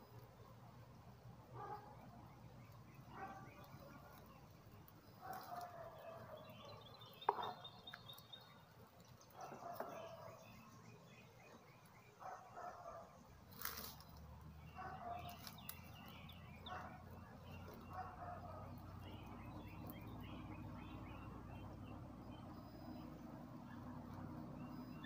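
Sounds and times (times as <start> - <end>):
faint birdsong chirping: 0.0 - 25.0
low steady hum: 0.0 - 25.0.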